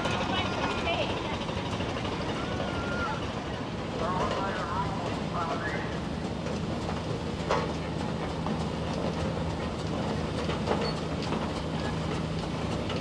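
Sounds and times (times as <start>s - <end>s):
steam traction engine rumbling: 0.0s - 13.0s.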